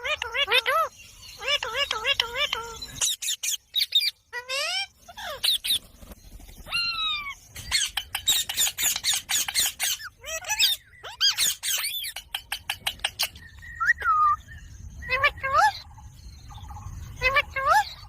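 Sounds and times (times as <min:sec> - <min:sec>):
parakeet squawking and chirping: 0:00.0 - 0:06.0, 0:06.6 - 0:18.0.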